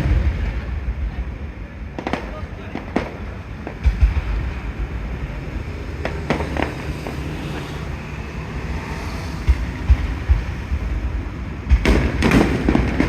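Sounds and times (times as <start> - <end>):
fireworks booming: 0.0 - 13.0
fireworks cracking: 0.0 - 13.0
low rumble: 0.0 - 13.0.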